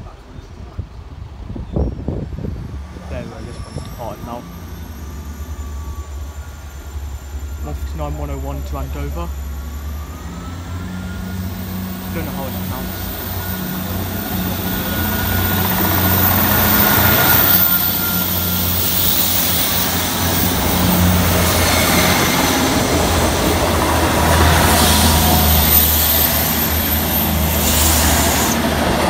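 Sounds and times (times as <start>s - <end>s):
train wheels rumbling on rails: 0.6s - 29.0s.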